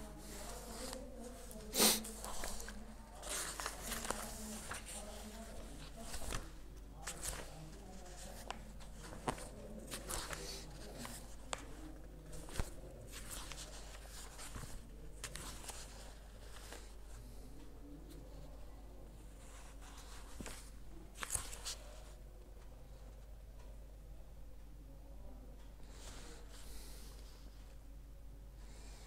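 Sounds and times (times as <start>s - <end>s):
faint shuffling: 0.0s - 23.8s
steady low hum: 0.0s - 29.0s.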